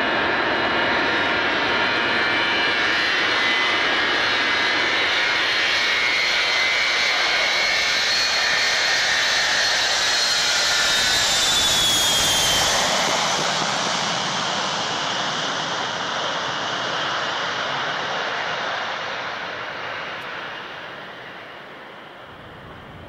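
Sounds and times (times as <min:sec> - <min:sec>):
jet engines passing with whine: 0:00.0 - 0:23.0.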